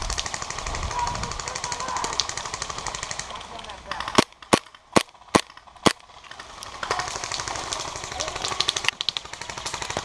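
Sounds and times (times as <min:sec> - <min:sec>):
rapid airsoft fire: 0:00.0 - 0:10.0.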